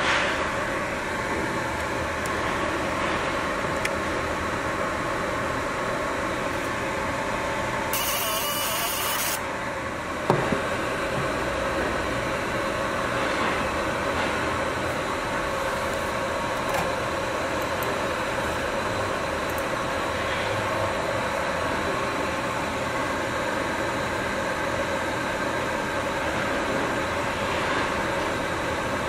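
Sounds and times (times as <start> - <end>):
workshop machinery humming: 0.0 - 29.0.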